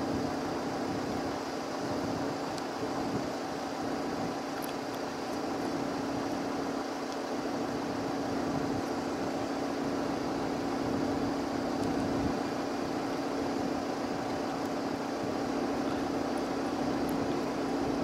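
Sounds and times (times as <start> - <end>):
jet engines hum: 0.0 - 18.0.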